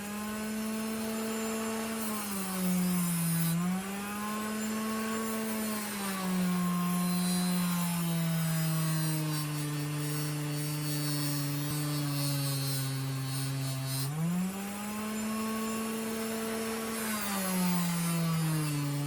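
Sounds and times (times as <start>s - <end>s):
power tool motor hum: 0.0s - 19.0s
abrasive wheel scrubbing metal: 0.6s - 19.0s.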